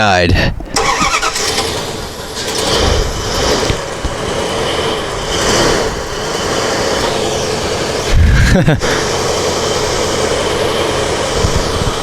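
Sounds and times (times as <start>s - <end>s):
engine running rough and stumbling: 0.6s - 12.0s.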